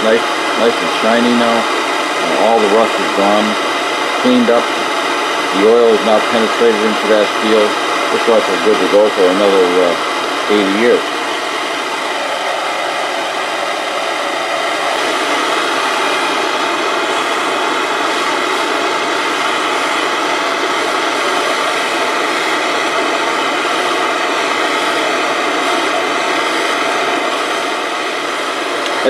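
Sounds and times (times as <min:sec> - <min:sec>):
hand torch flame hissing: 0:00.0 - 0:29.0.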